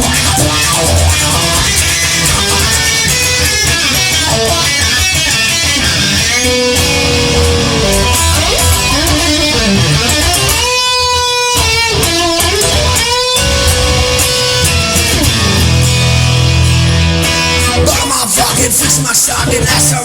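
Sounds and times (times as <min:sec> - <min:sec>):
bass line: 0:00.0 - 0:20.0
electric guitar lead notes: 0:00.0 - 0:20.0
strummed guitar: 0:00.0 - 0:20.0.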